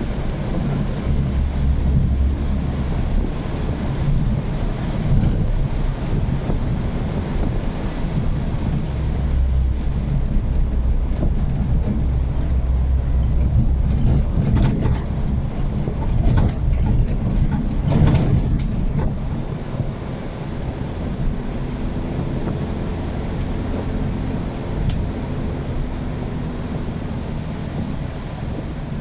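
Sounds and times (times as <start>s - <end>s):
car engine droning: 0.0s - 29.0s
road and wind noise: 0.0s - 29.0s.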